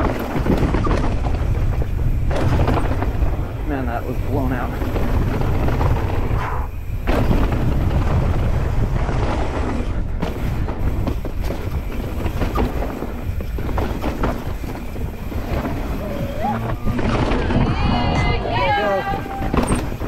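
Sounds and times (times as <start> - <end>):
bike rattling and knocking: 0.0 - 20.0
wind rumbling on microphone: 0.0 - 20.0.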